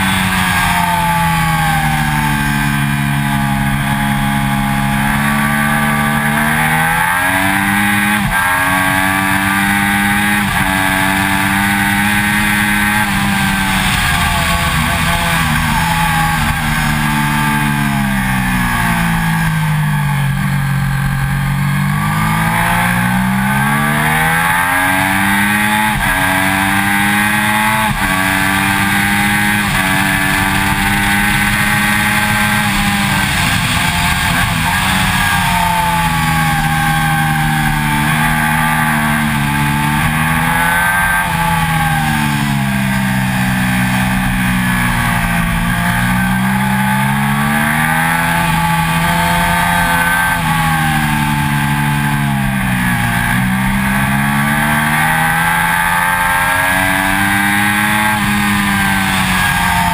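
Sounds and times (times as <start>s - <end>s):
motorcycle engine running hard: 0.0s - 59.9s
wind and road noise: 0.0s - 59.9s.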